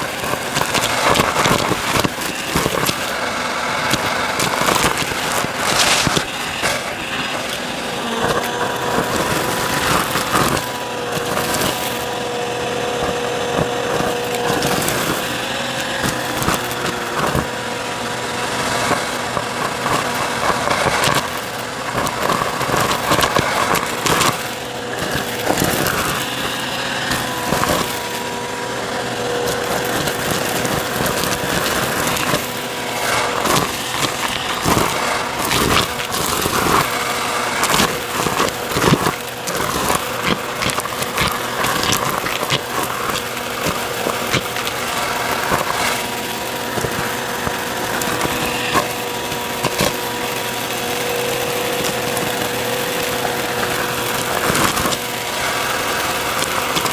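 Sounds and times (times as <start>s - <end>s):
debris crackling in vacuum: 0.0s - 56.9s
vacuum cleaner motor whine: 0.0s - 56.9s.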